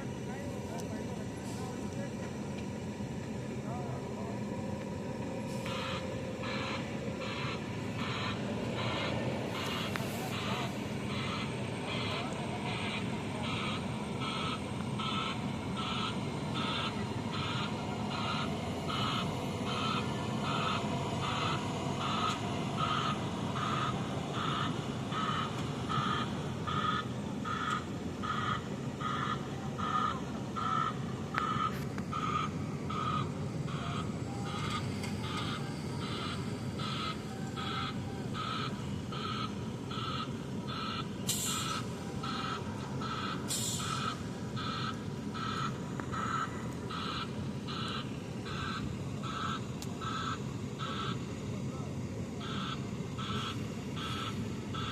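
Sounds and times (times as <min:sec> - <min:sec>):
diesel engine running: 0:00.0 - 0:54.9
reversing alarm beeping: 0:05.5 - 0:30.0, 0:30.6 - 0:51.3, 0:52.4 - 0:54.9.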